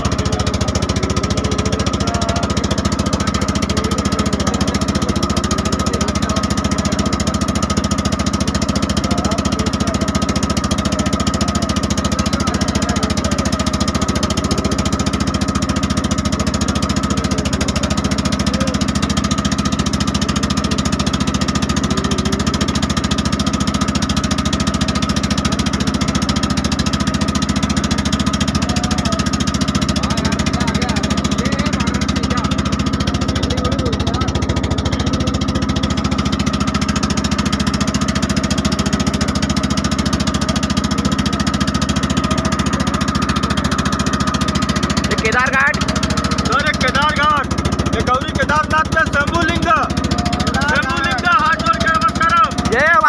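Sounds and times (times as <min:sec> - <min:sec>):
boat engine chugging: 0:00.0 - 0:53.0.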